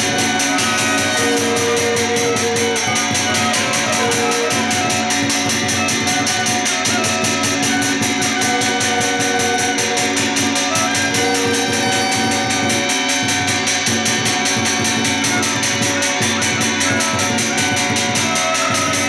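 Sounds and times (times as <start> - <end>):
fast percussion beat: 0.0 - 19.0
shawm playing wavering melody: 0.0 - 19.0.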